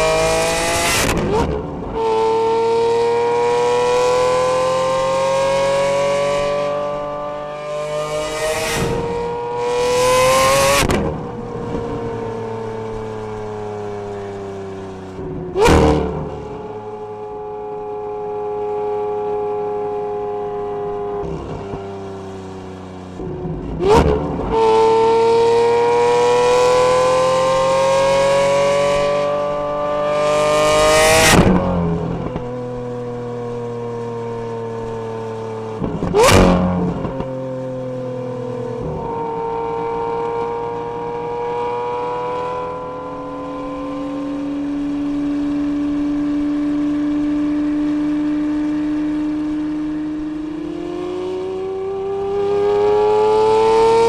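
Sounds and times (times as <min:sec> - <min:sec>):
car engine running at speed: 0:00.0 - 0:54.0.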